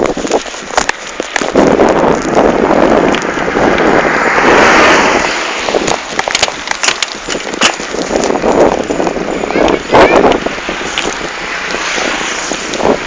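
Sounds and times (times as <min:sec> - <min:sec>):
rattling clicks from camera and bike: 0:00.0 - 0:04.0, 0:05.7 - 0:13.0
bicycle tyres rolling on pavement: 0:00.0 - 0:13.0
wind rushing over microphone: 0:00.0 - 0:13.0.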